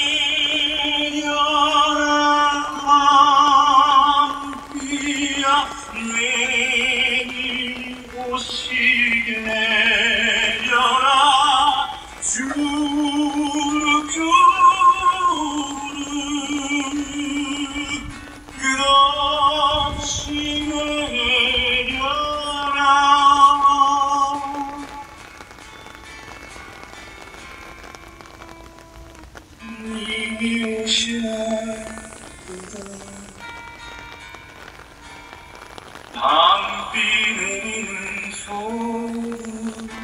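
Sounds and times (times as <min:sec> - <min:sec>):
tenor voice singing: 0:00.0 - 0:25.2, 0:29.6 - 0:33.6, 0:36.1 - 0:40.0.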